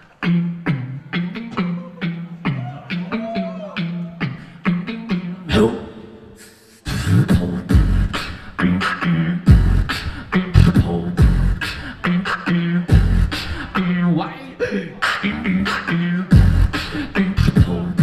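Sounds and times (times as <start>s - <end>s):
beatboxing into a microphone: 0.0s - 18.0s.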